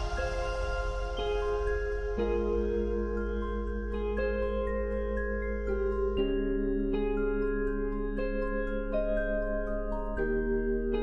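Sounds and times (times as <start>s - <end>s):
soft ambient music: 0.0s - 11.0s.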